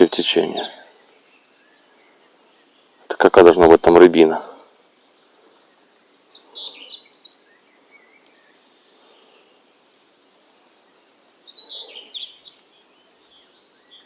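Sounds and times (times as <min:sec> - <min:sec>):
faint outdoor background hiss: 0:00.0 - 0:14.0
songbird chirping: 0:00.0 - 0:14.0.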